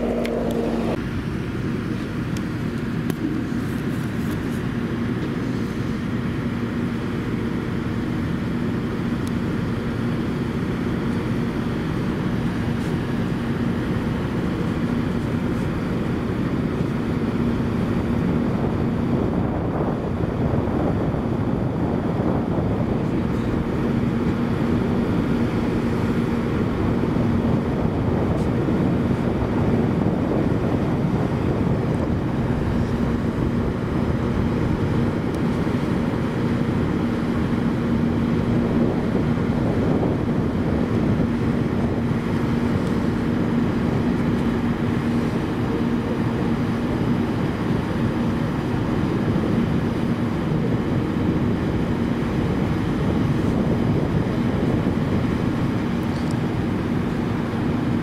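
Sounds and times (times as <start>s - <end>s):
engine drone: 0.0s - 58.0s
wind rumble on microphone: 0.0s - 58.0s.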